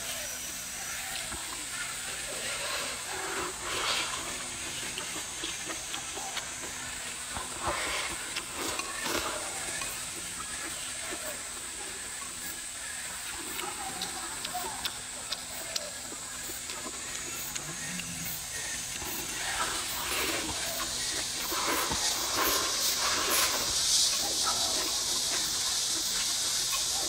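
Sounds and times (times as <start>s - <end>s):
steady high hiss: 0.0s - 27.0s
chewing: 2.3s - 11.4s, 12.1s - 26.3s.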